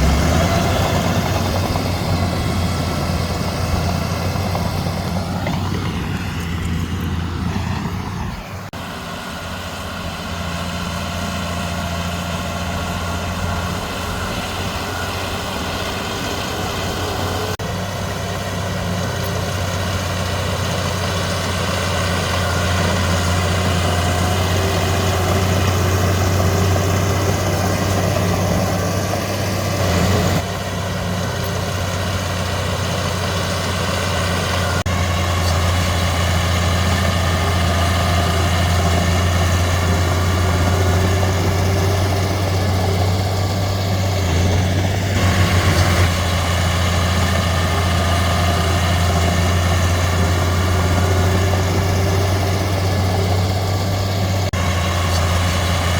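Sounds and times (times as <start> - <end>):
diesel engine humming: 0.0 - 55.9.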